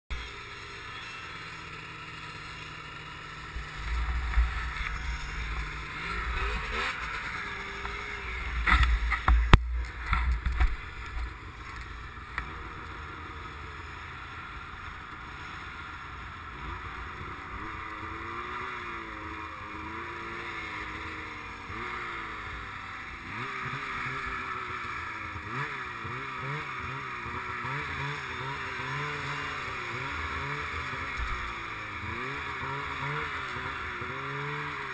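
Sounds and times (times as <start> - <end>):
snowmobile engine revving: 0.2 - 34.9.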